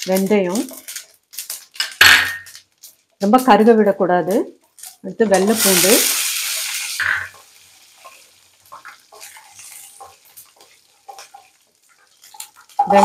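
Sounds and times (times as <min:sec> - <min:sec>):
garlic sizzling in pan: 0:00.0 - 0:13.0.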